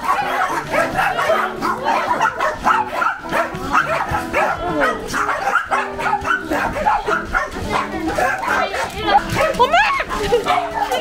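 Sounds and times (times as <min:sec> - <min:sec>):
small dogs barking and whining: 0:00.0 - 0:11.0.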